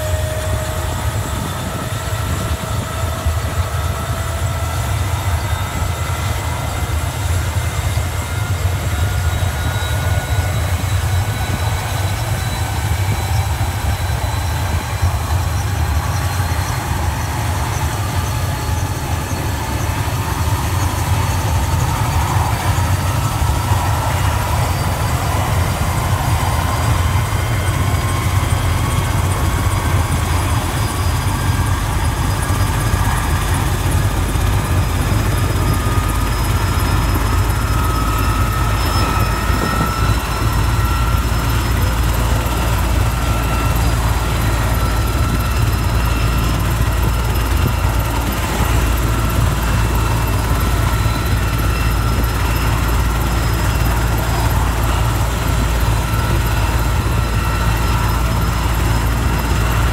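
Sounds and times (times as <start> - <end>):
helicopter rotor and engine drone: 0.0 - 59.9
turbine whine rising in pitch: 0.0 - 59.9.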